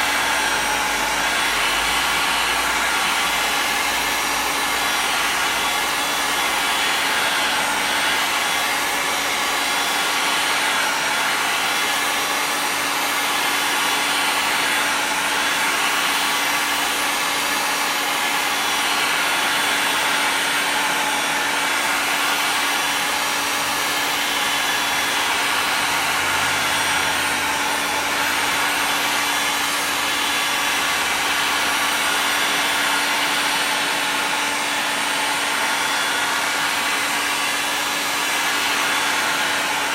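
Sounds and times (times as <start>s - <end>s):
heat gun blowing air: 0.0s - 39.9s.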